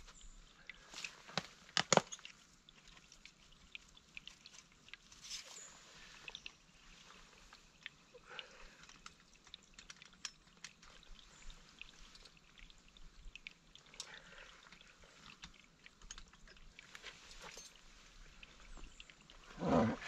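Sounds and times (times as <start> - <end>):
clicks and crackles of dry sticks: 0.0 - 19.5.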